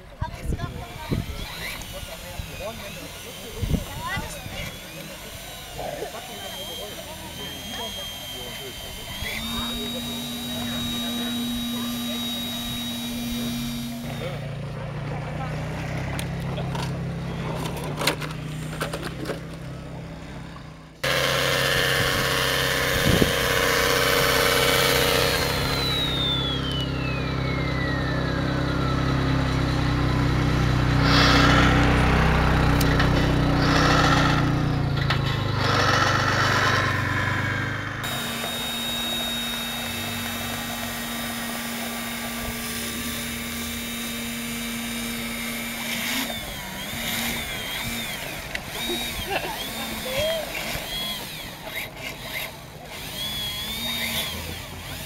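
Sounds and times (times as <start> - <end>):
electric motors and gearboxes whining: 0.5 - 14.8, 15.8 - 55.0.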